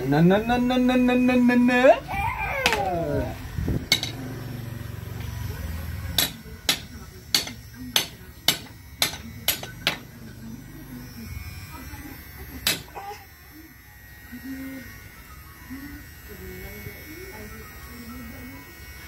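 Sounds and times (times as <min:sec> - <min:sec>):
electric hair clippers humming: 0:00.0 - 0:19.0.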